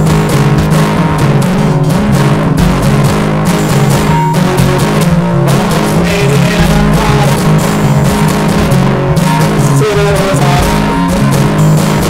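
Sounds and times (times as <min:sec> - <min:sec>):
guitar-led music: 0:00.0 - 0:12.0.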